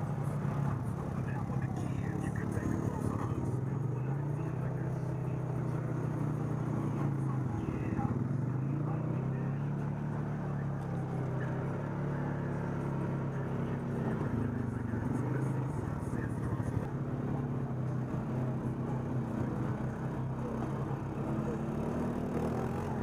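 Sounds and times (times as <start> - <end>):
atv engine running: 0.0 - 23.0.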